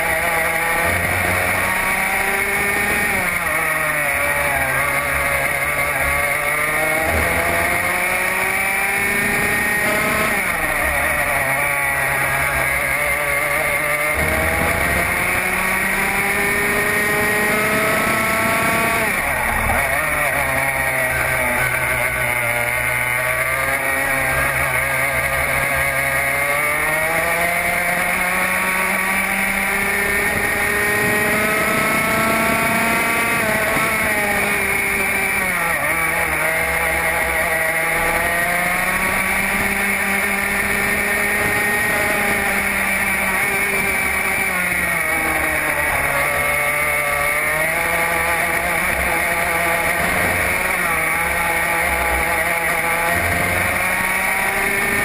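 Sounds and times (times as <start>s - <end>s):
racing kart engine revving: 0.0s - 55.0s.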